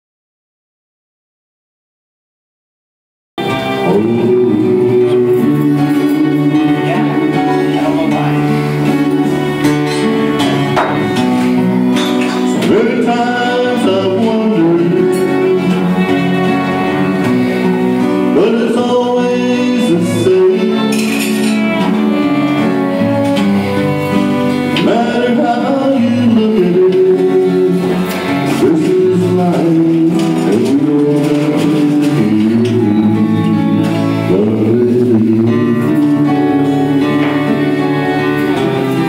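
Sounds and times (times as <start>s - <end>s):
fiddle with sliding notes: 3.4s - 39.0s
man singing: 3.4s - 39.0s
strummed acoustic guitar: 3.4s - 39.0s
upright bass: 3.4s - 39.0s.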